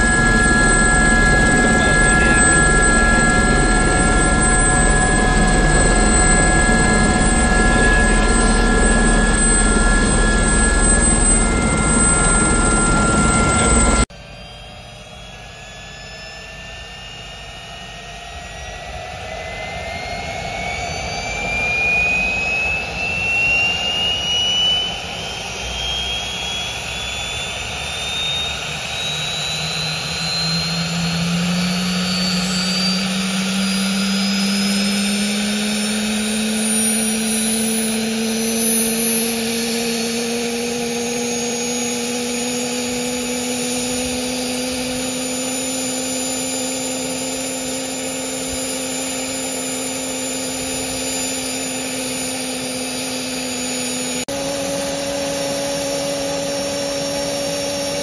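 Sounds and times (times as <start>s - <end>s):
low rotor tone rising: 0.0s - 17.3s, 23.7s - 58.0s
helicopter turbine whine rising: 0.0s - 58.0s.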